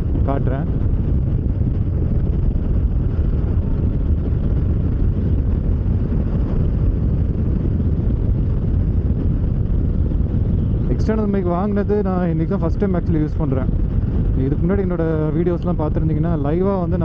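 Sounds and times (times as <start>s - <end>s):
motorcycle engine and road rumble: 0.0s - 17.0s
wind rushing over microphone: 0.0s - 17.0s.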